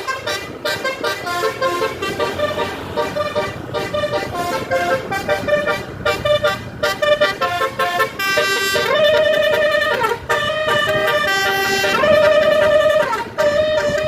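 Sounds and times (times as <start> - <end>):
multi-trumpet air horn tune: 0.0 - 14.0.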